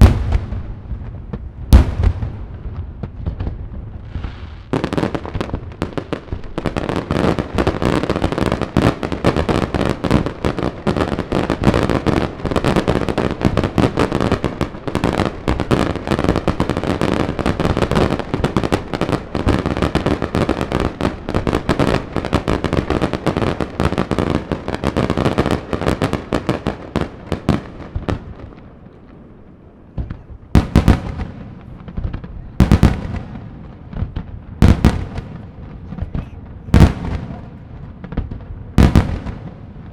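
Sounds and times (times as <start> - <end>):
fireworks bangs: 0.0 - 39.9
heavy fireworks booms: 0.0 - 39.9.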